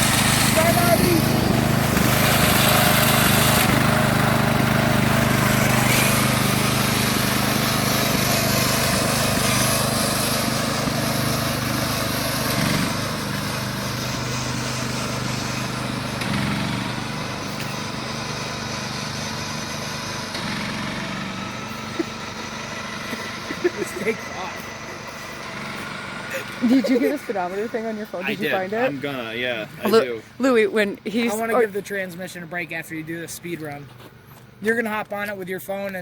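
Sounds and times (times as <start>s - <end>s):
riding lawnmower engine running: 0.0s - 36.0s.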